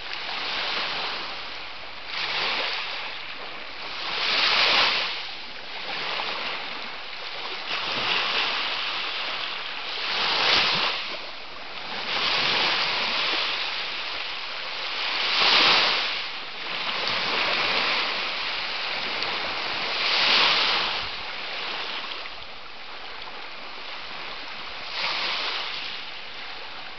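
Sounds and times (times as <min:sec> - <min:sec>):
waves washing onto shore: 0:00.0 - 0:26.9.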